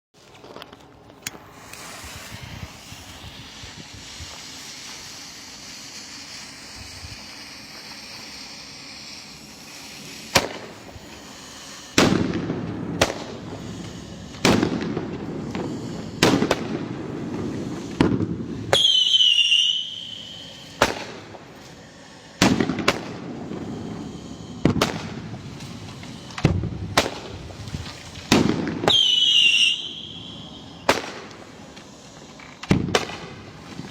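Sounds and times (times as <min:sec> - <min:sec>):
firework hiss: 0:00.2 - 0:33.9
firework bangs: 0:01.2 - 0:33.9
firework whistle: 0:01.4 - 0:33.9.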